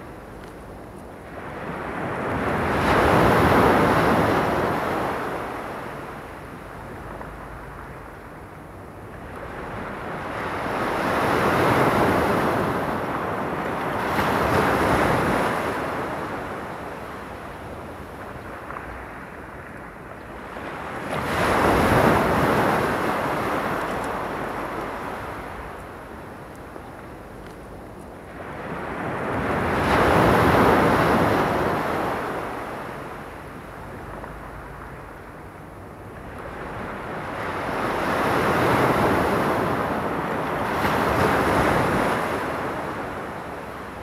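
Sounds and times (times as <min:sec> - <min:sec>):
small waves breaking on shore: 0:01.2 - 0:44.0.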